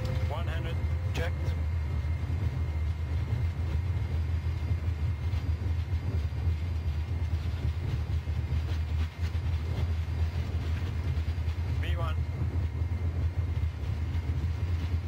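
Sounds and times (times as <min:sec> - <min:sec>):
jet engines rumbling: 0:00.0 - 0:15.0
wheels on runway: 0:00.0 - 0:15.0.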